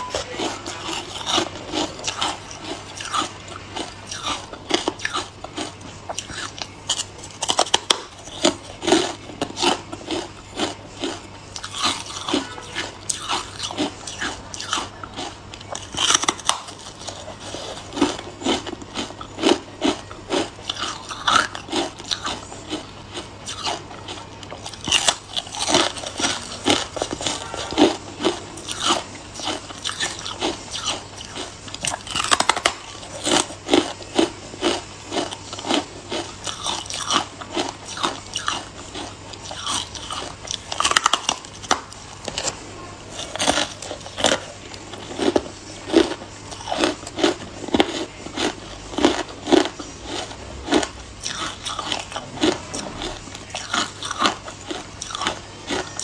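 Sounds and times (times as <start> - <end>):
ice being chewed crunching: 0.0 - 56.0.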